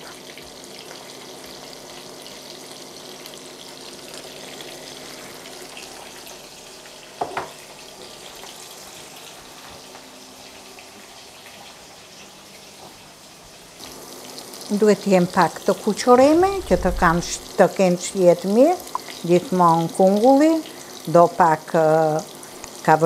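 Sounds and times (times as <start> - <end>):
oil sizzling in a pan: 0.0 - 23.0.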